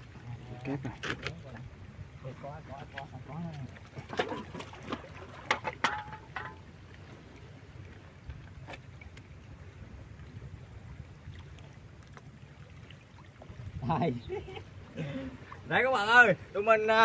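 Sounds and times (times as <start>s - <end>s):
wind and sea on rocky shore: 0.0s - 17.0s.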